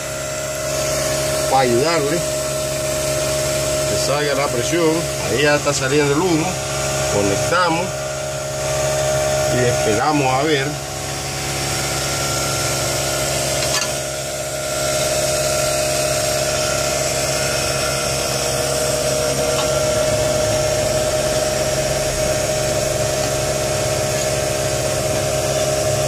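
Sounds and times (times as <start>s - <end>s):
motor humming and whining: 0.0s - 26.0s.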